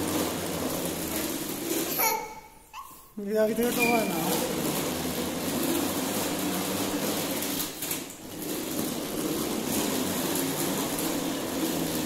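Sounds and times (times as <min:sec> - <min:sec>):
plastic wheels rolling on tiles: 0:00.0 - 0:12.0.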